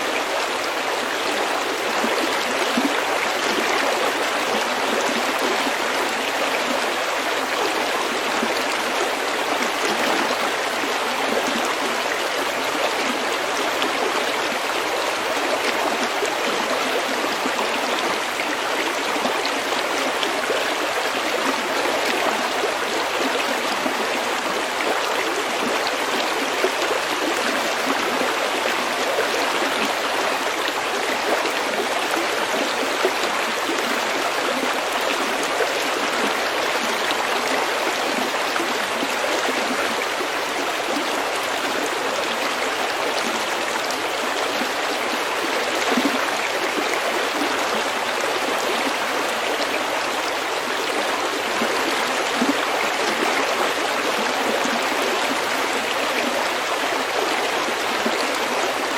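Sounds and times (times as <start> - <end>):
stream flowing over pebbles: 0.0 - 58.9.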